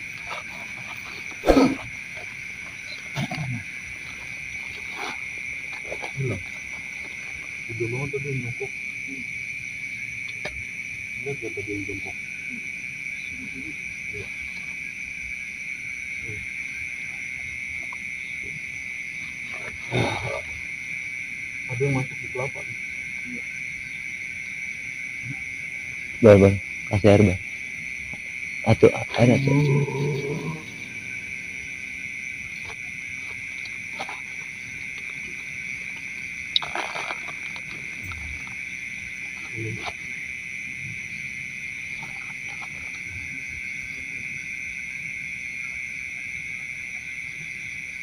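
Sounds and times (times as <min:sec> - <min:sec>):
crickets trilling: 0:00.0 - 0:48.0
insects chirring: 0:00.0 - 0:48.0.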